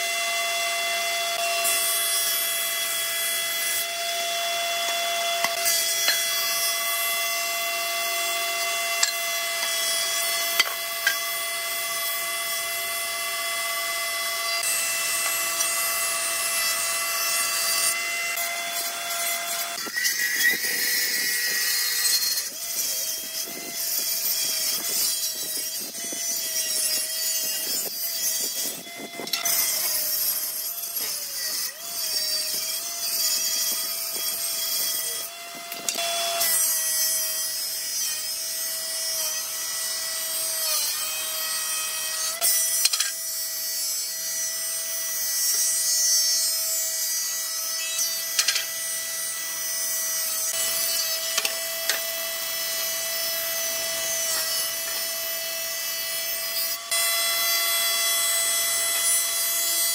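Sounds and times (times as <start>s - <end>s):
blades shaving wood: 0.0s - 59.9s
jointer planer cutterhead whining: 0.0s - 59.9s.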